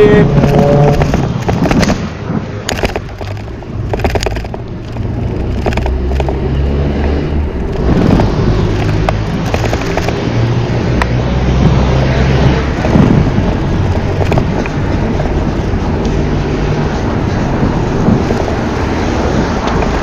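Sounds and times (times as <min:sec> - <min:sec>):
road noise: 0:00.0 - 0:20.0
vehicle engines humming: 0:00.0 - 0:20.0.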